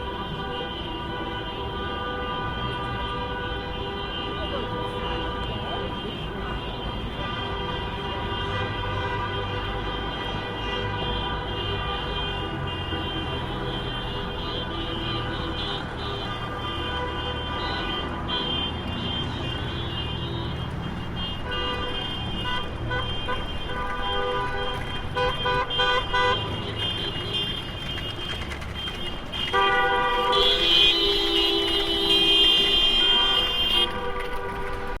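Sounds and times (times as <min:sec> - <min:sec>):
car horns honking: 0:00.0 - 0:35.0
low rumble of engines: 0:00.0 - 0:35.0.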